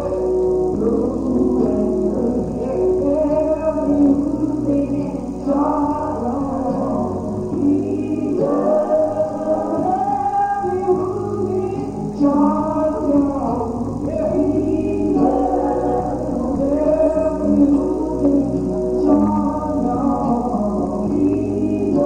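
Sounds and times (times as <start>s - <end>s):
choir singing: 0.0s - 22.0s
instrumental backing: 0.0s - 22.0s.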